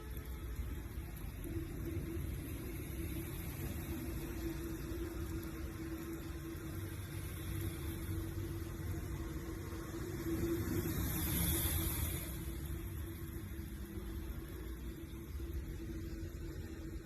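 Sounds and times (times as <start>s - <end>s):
engine and road hum: 0.0s - 17.0s
steady hiss: 0.0s - 17.0s.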